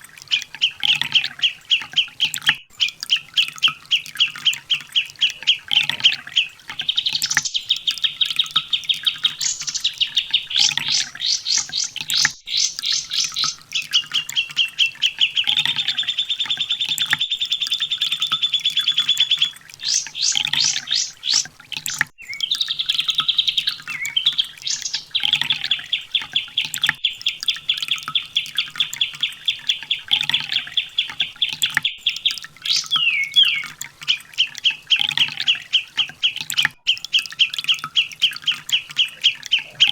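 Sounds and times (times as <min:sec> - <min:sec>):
bird singing rapid trills: 0:00.2 - 0:39.9.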